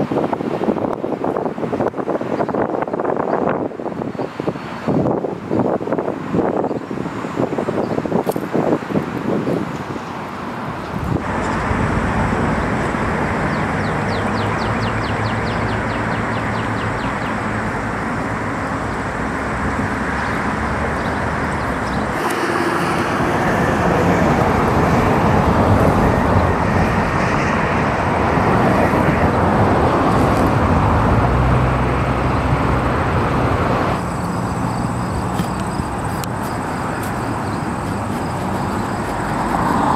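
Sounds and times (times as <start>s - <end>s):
cars passing: 0.0s - 39.9s
tyres on road: 0.0s - 39.9s.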